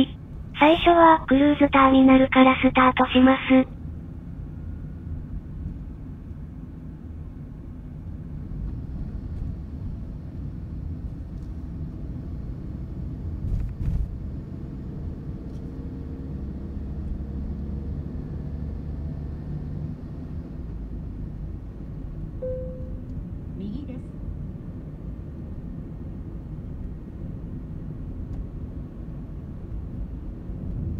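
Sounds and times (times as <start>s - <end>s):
car road and engine rumble: 0.0s - 30.9s.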